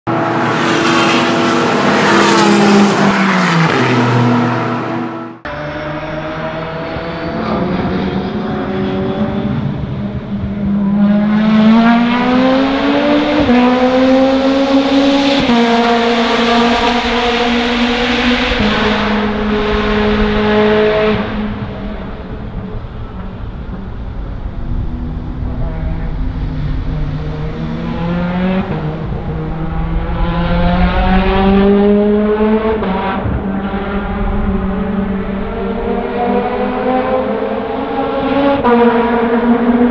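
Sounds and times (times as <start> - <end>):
race car engine accelerating: 0.1 - 39.9.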